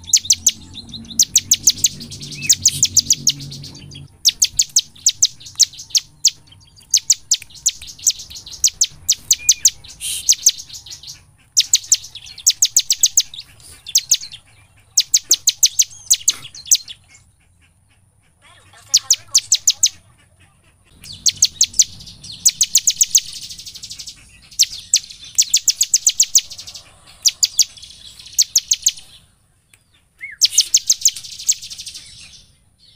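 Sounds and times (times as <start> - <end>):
bird high chipping song: 0.0 - 18.0, 18.6 - 20.2, 20.8 - 32.9.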